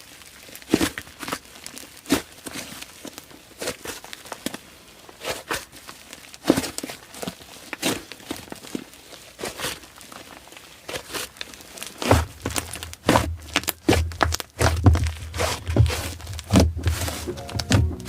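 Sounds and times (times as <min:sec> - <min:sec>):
slime crackling and popping: 0:00.0 - 0:17.8.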